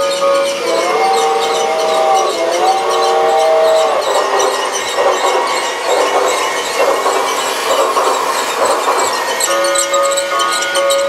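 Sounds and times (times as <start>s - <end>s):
held tune: 0.0s - 11.0s
toy steam train chuffing: 0.0s - 11.0s.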